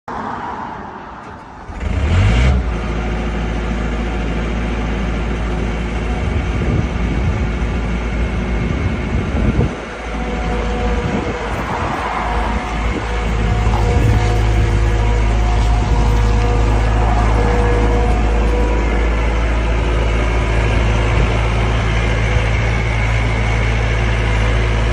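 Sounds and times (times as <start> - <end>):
diesel engine running: 1.3 - 24.9.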